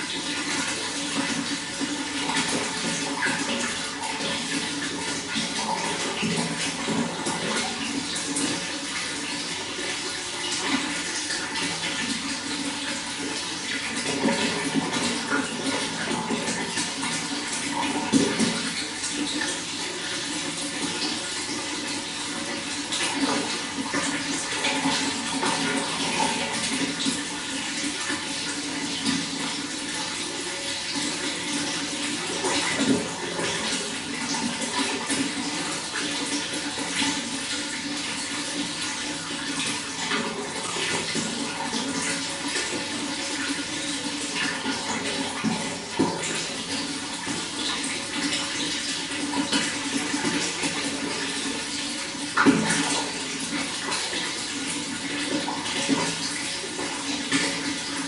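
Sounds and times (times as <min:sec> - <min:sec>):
running water splashing: 0:00.0 - 0:58.0.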